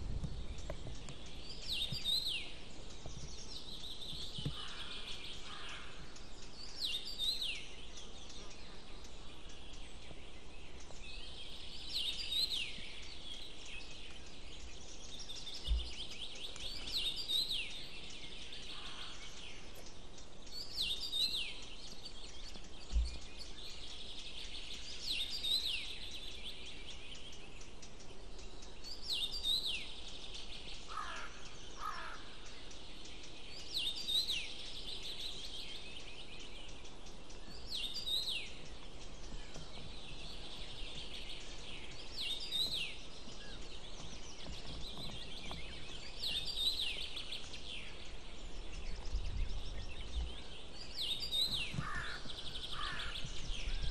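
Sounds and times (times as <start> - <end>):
background hiss: 0.0 - 53.9
lower falling bird calls: 0.0 - 53.9
songbird singing: 0.0 - 53.9.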